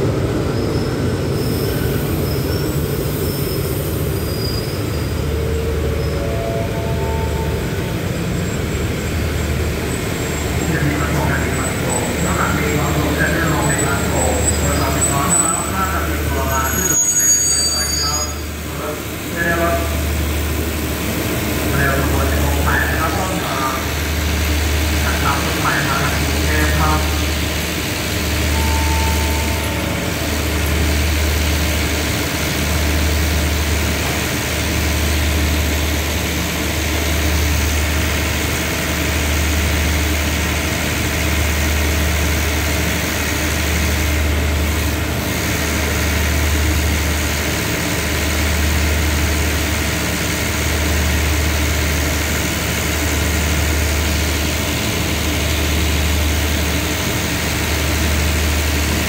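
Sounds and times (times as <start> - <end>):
diesel train engine idling: 0.0 - 17.0, 17.9 - 59.0.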